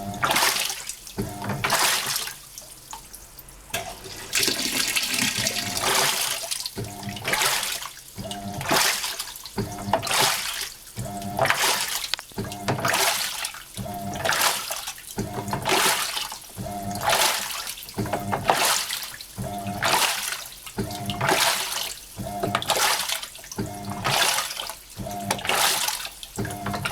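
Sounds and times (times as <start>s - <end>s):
washing machine motor whine: 0.0s - 2.8s, 3.4s - 26.9s
washing machine water swishing: 0.0s - 26.9s.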